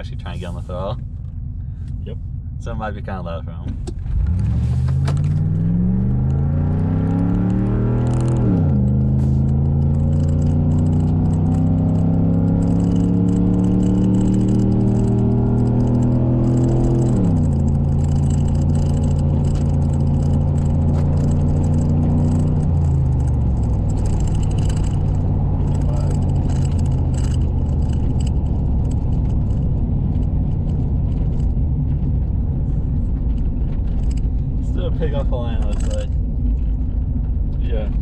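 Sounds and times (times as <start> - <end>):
car engine accelerating: 3.8 - 38.0.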